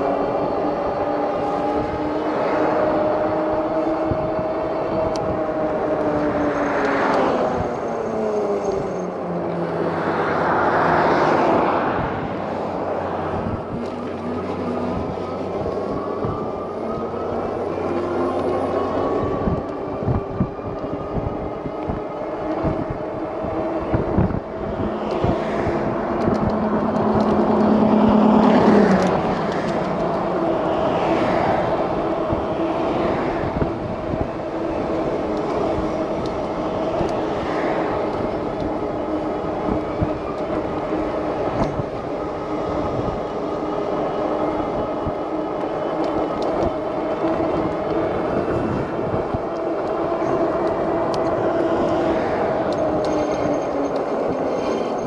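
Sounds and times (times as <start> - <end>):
electric bike motor whine: 0.0 - 53.5
passing vehicle: 0.0 - 55.0
wind noise on microphone: 0.0 - 55.0.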